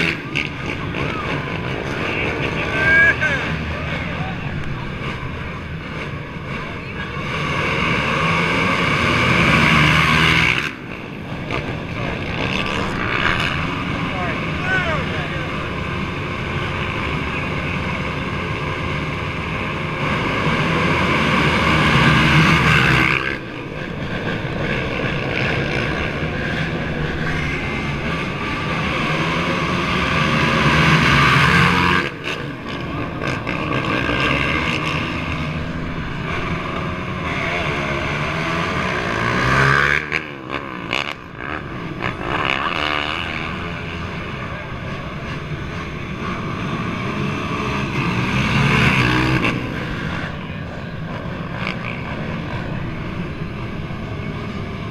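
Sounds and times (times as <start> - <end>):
racing atv engines revving: 0.0 - 54.9.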